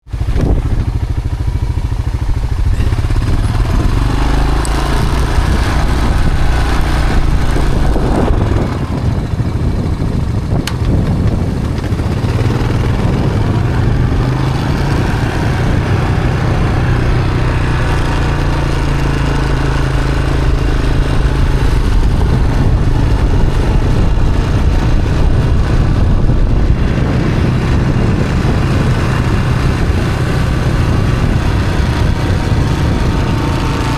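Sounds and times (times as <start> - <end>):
small gasoline engine running: 0.1 - 33.9.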